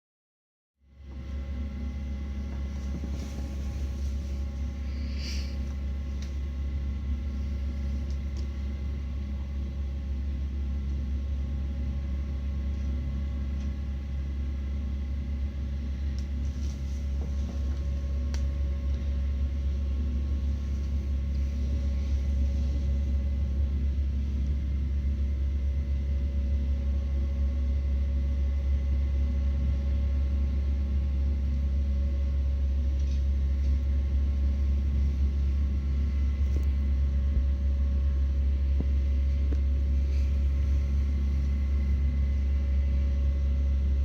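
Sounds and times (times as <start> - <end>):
vacuum cleaner running: 1.1 - 10.7, 11.4 - 27.5, 31.5 - 44.0.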